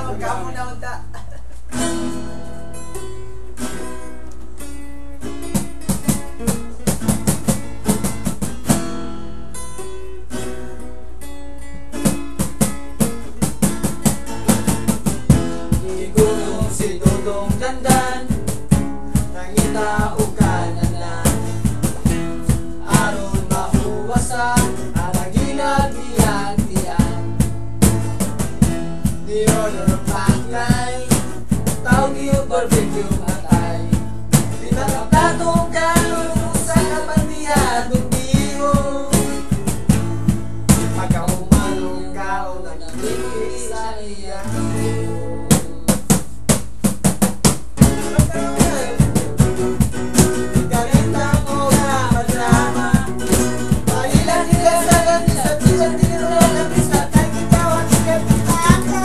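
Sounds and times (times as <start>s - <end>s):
drum beats: 3.9s - 9.1s, 11.8s - 42.0s, 45.4s - 59.0s.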